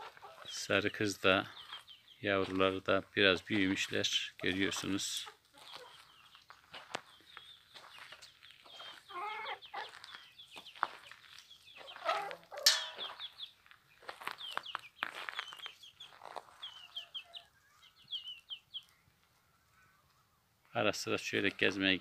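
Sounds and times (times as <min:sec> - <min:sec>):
chicks peeping: 0:00.0 - 0:20.5
chickens clucking: 0:00.0 - 0:22.0.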